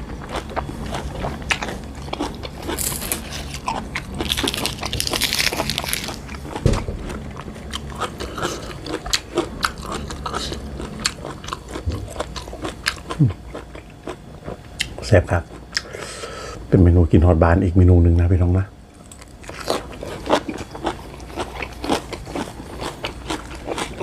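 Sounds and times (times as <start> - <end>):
crunchy chewing: 0.0 - 16.1, 18.9 - 24.0.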